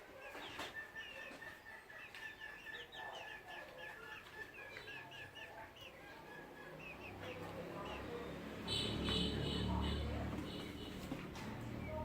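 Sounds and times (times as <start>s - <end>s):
chickens chirping: 0.0s - 12.0s.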